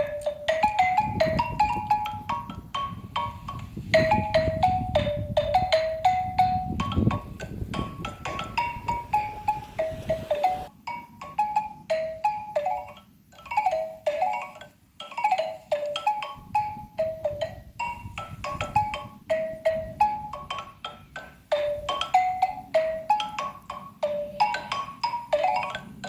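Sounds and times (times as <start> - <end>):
xylophone played with mallets: 0.0 - 26.0.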